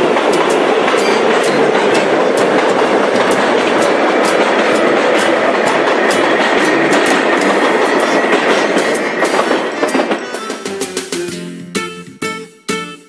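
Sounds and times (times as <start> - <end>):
train rumbling on rails: 0.0 - 11.3
wheels clicking over rail joints: 0.0 - 11.3.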